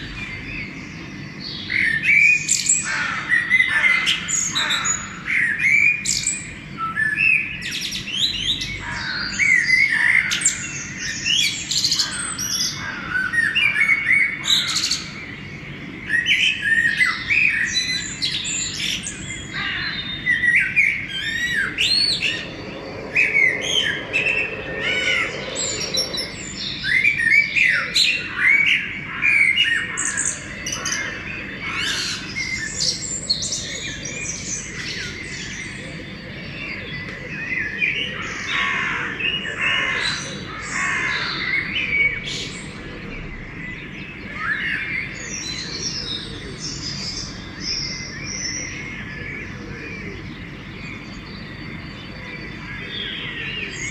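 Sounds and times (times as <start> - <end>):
songbirds singing and chirping: 0.0 - 53.9.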